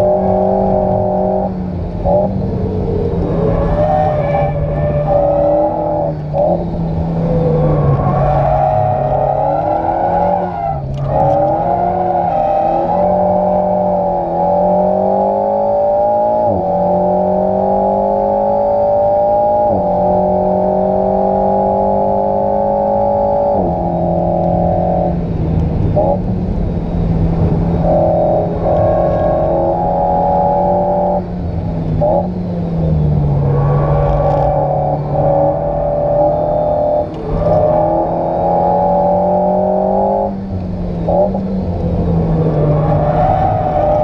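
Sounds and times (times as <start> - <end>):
car engine at full throttle: 0.0 - 44.0.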